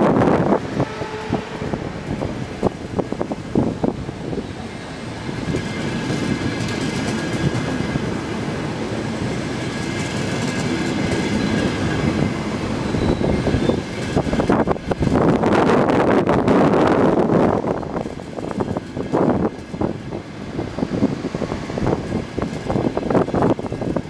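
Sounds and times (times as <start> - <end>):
train wheels clicking over rails: 0.1 - 24.0.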